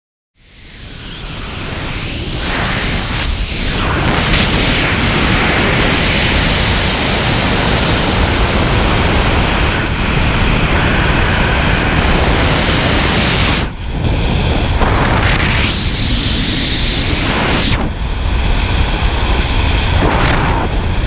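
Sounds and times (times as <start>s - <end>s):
freefall wind rushing: 0.4s - 21.0s.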